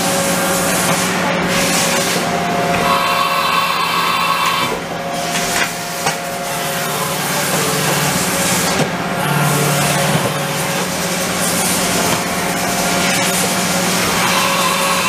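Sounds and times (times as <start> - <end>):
high machine whine: 0.0 - 15.0
machining center running: 0.0 - 15.0.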